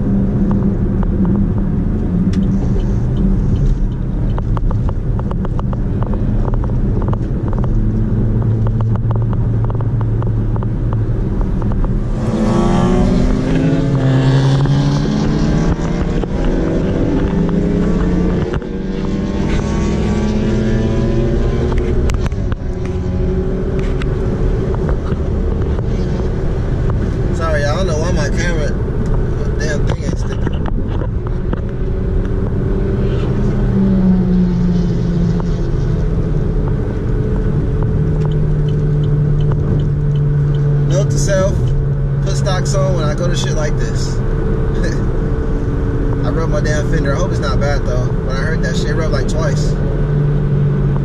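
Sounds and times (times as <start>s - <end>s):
car engine revving: 0.0s - 51.0s
road noise: 0.0s - 51.0s.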